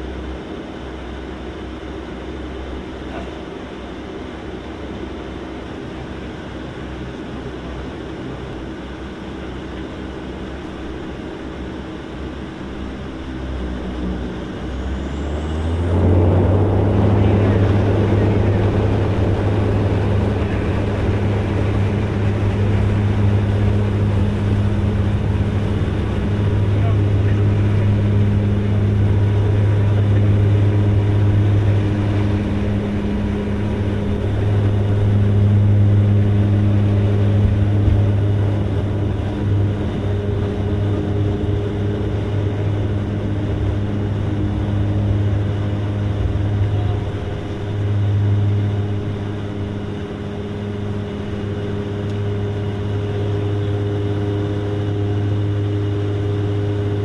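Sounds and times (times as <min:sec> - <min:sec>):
low propeller drone: 0:00.0 - 0:57.0.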